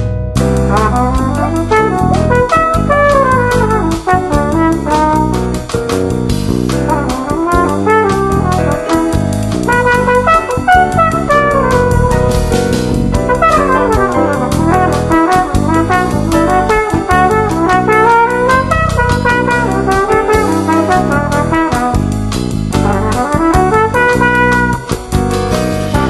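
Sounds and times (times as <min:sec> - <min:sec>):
electric bass: 0:00.0 - 0:26.0
piano: 0:00.0 - 0:26.0
flugelhorn melody: 0:00.6 - 0:05.6, 0:06.8 - 0:25.2.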